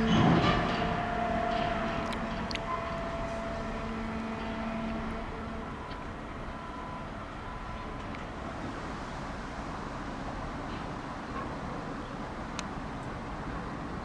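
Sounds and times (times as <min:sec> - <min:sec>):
train electric hum: 0:00.0 - 0:14.0.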